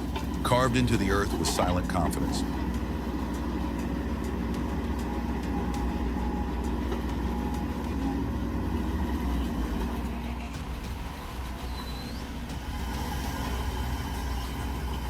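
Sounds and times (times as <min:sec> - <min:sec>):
diesel engine rumbling: 0:00.0 - 0:15.0
faint hum: 0:00.0 - 0:15.0.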